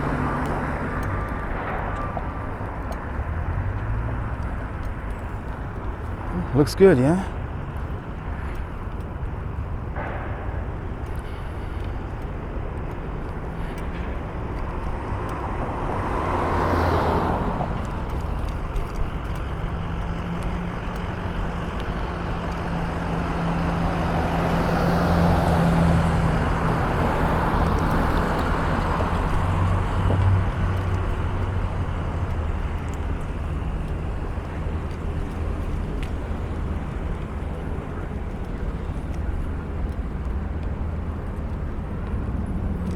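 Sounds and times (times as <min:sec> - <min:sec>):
vehicles passing: 0:00.0 - 0:42.9.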